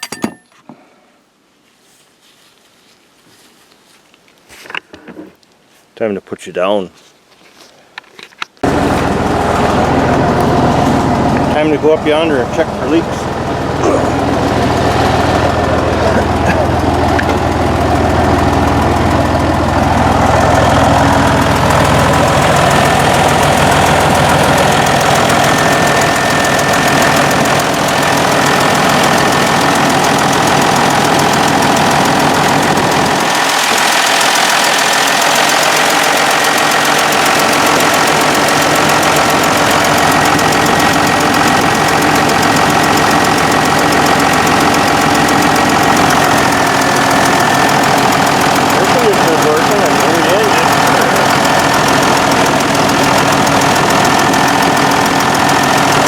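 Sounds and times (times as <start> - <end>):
diesel engine idling: 8.6 - 56.0.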